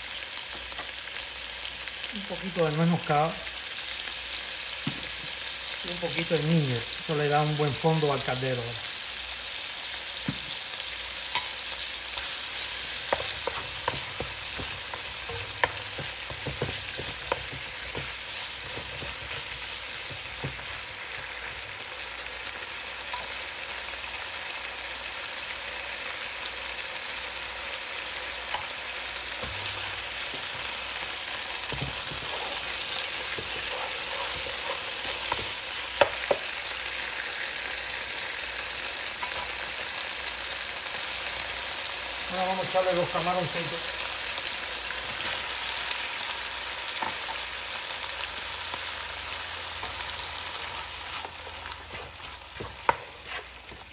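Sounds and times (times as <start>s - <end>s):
vegetables sizzling in oil: 0.0s - 53.9s.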